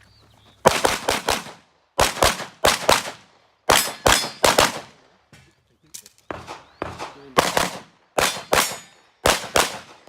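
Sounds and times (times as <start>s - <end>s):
pistol shots: 0.6s - 5.0s, 6.2s - 10.0s.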